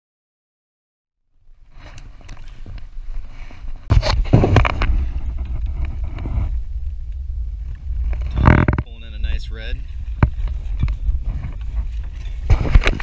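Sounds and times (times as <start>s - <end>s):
wind buffeting microphone: 1.4s - 13.0s
water rumbling against hull: 1.5s - 13.0s.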